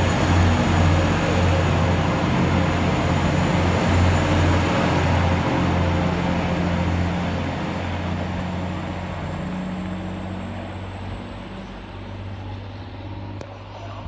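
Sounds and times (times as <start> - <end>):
train engine humming: 0.0 - 14.0.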